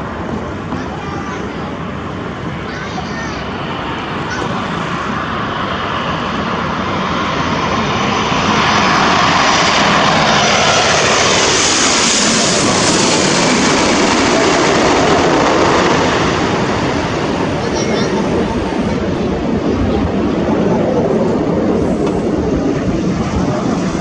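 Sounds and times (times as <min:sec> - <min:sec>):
airliner jet engines passing overhead: 0:00.0 - 0:24.0.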